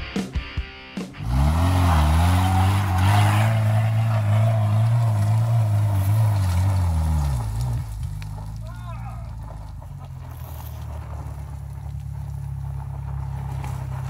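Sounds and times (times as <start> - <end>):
engine at high revs: 1.2 - 14.0.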